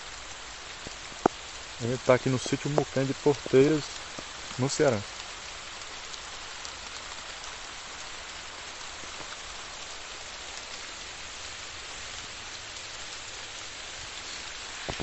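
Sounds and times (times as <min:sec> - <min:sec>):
fine rain falling on trees: 0:00.0 - 0:15.0.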